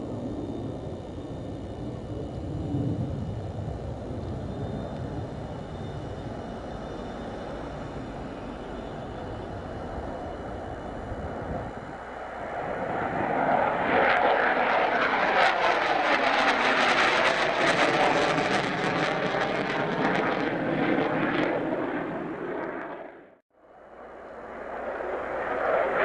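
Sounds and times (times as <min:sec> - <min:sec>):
fighter jet roar: 0:00.0 - 0:23.3.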